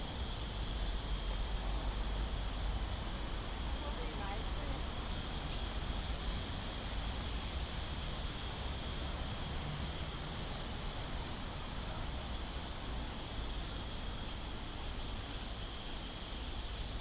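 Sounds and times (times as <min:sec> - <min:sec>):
even hiss: 0:00.0 - 0:17.0
high insect-like buzz: 0:00.0 - 0:17.0.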